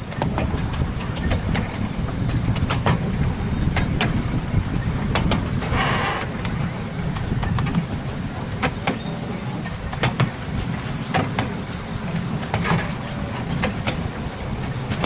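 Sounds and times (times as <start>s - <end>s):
miniature train rumbling: 0.0s - 15.0s
wheels clicking over rail joints: 0.0s - 15.0s.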